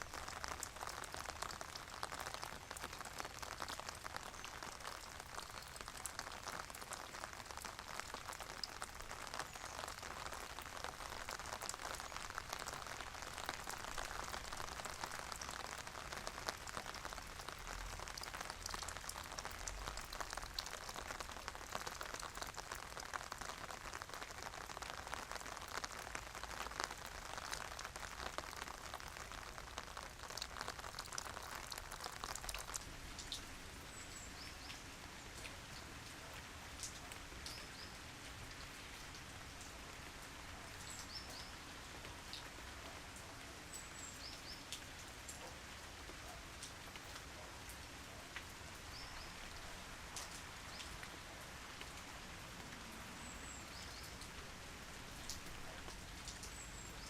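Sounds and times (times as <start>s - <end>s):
rain drops ticking on surface: 0.0s - 57.0s.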